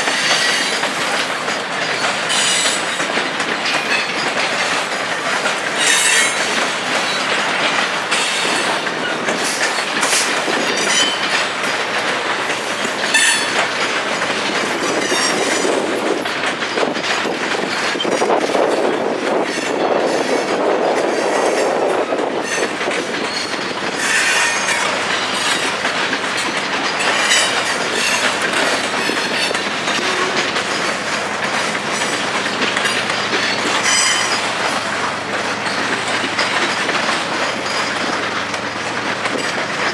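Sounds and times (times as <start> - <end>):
train wheels clicking over rails: 0.0 - 39.9.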